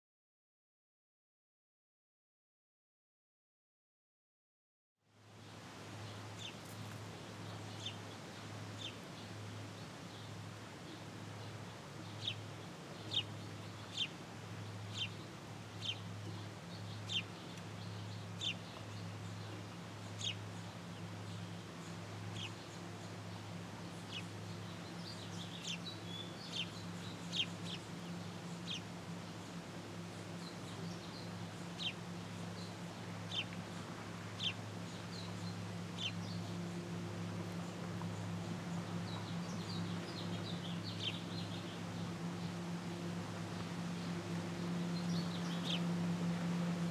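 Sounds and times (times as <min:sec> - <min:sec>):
steady low hum: 0:05.2 - 0:46.9.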